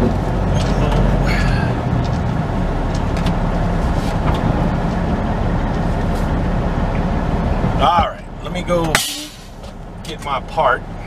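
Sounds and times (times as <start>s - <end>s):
diesel engine rumbling: 0.0s - 11.0s
road noise: 0.0s - 11.0s.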